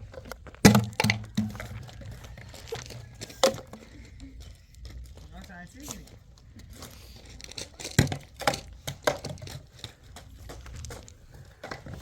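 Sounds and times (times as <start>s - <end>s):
crinkling and rustling handling: 0.0s - 12.0s.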